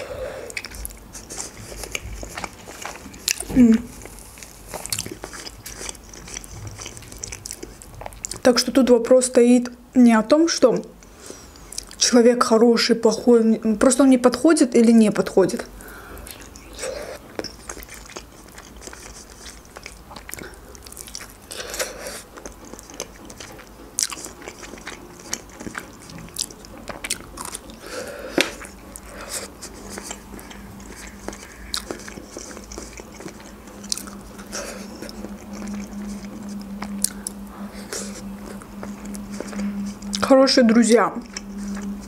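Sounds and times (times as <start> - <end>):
low steady hum: 0.0 - 42.0
chewing food close up: 0.4 - 8.9, 10.9 - 12.1, 15.5 - 42.0.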